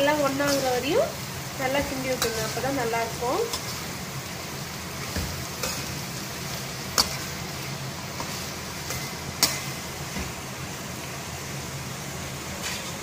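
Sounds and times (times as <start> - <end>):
vegetables frying: 0.0 - 13.0.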